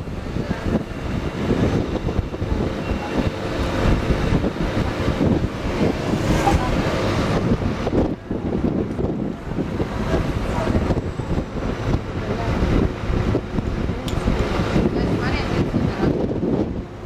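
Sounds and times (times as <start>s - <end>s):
bus engine running: 0.0s - 17.0s
street traffic: 0.0s - 17.0s
wind buffeting microphone: 0.0s - 17.0s.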